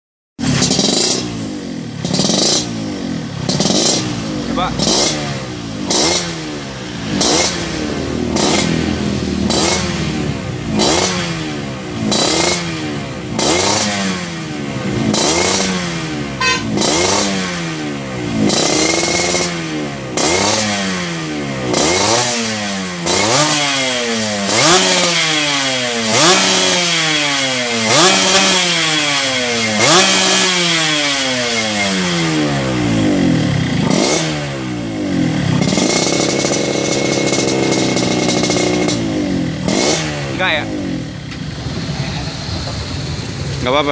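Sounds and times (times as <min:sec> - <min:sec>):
two-stroke engine revving: 0:00.4 - 0:43.9.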